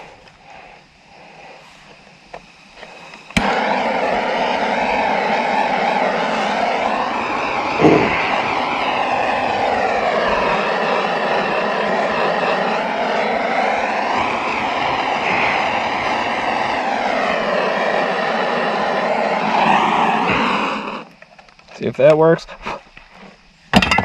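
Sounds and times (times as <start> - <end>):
torch flame hissing: 0.0 - 21.5.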